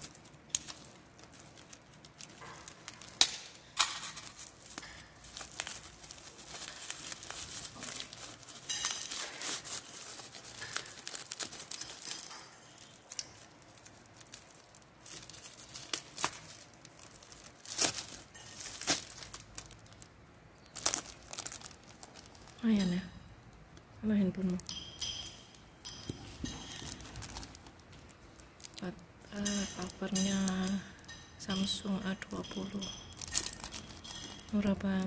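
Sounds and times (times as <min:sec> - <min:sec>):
plastic packaging crinkling and tearing: 0:00.0 - 0:23.6, 0:25.8 - 0:35.0.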